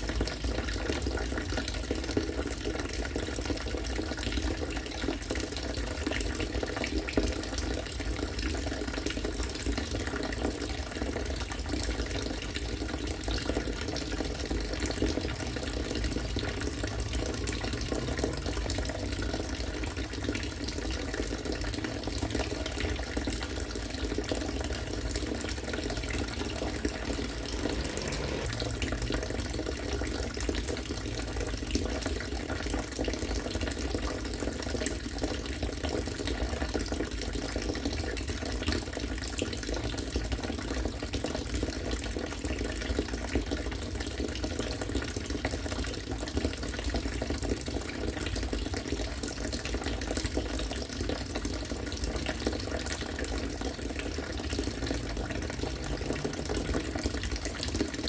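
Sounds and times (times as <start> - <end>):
water pouring and splashing: 0.0 - 58.0.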